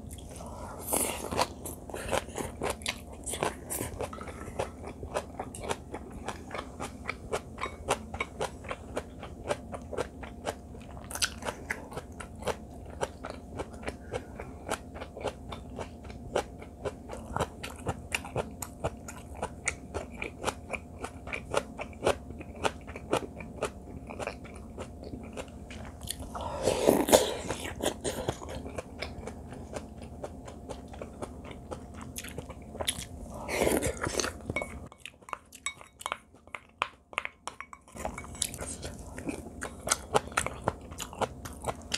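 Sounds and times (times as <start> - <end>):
close-miked chewing: 0.0 - 41.9.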